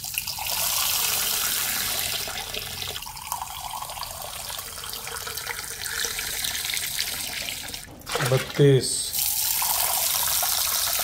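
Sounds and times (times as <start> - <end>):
water running into a mug: 0.0 - 11.0.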